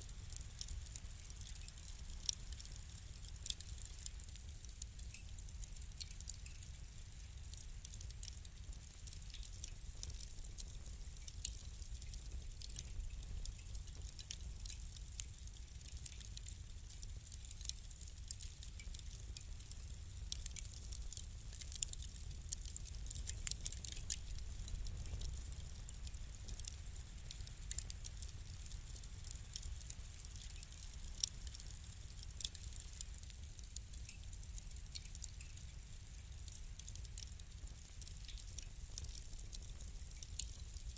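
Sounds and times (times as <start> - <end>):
fire pops and snaps: 0.0 - 40.9
low rumble of flames: 0.0 - 40.9.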